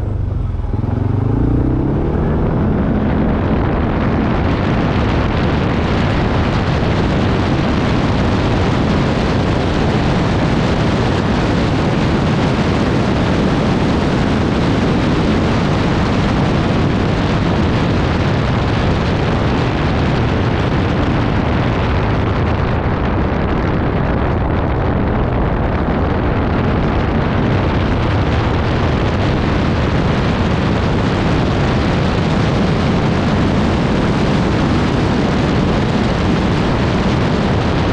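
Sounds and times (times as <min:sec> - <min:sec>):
atv engine rumbling: 0:00.0 - 0:37.9
wind buffeting microphone: 0:00.0 - 0:37.9.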